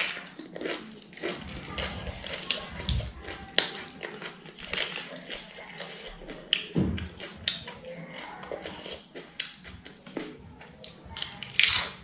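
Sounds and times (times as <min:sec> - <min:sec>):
person chewing crunchy leaf: 0:00.0 - 0:12.0.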